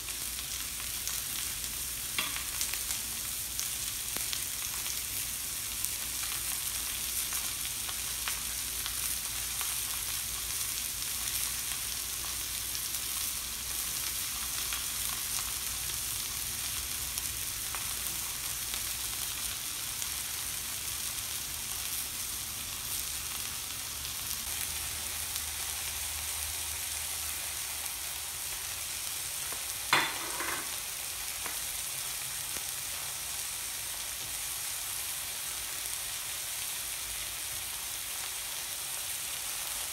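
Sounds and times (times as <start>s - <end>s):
meat and vegetables sizzling on griddle: 0.0s - 39.9s.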